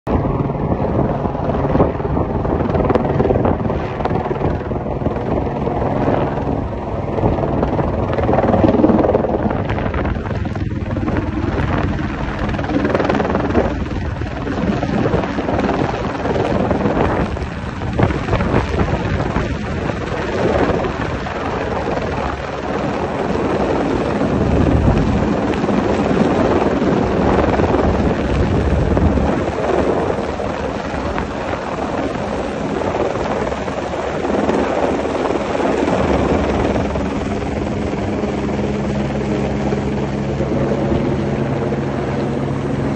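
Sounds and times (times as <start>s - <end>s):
helicopter flying overhead: 0.1s - 42.9s.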